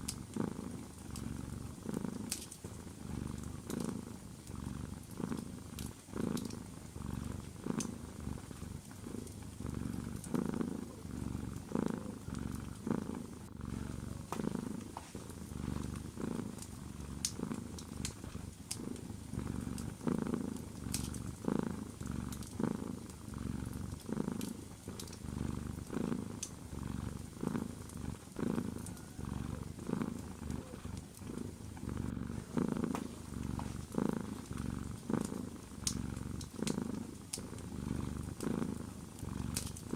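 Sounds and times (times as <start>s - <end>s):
cat purring: 0.0s - 39.9s
fireplace fire crackling: 0.0s - 39.9s.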